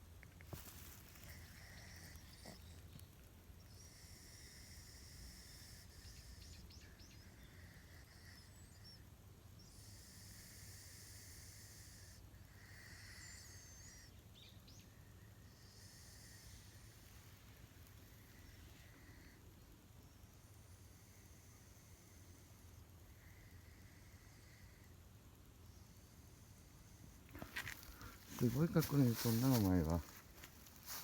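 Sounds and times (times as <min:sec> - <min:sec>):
faint high hiss: 0:00.0 - 0:31.0.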